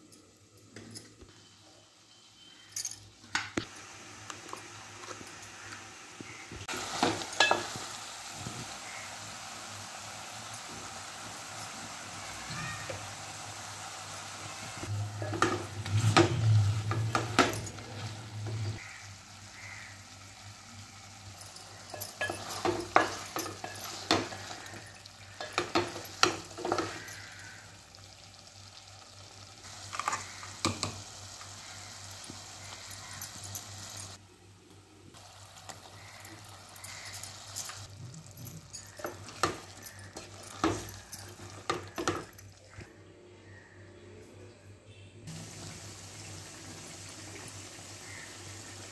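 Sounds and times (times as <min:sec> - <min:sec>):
sizzle of frying food: 0:03.1 - 0:42.9, 0:45.3 - 0:48.9.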